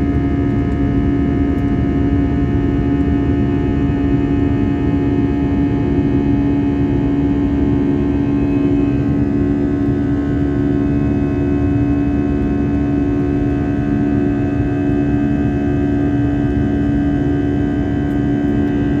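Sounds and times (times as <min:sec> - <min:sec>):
aeroplane engine drone: 0:00.0 - 0:19.0.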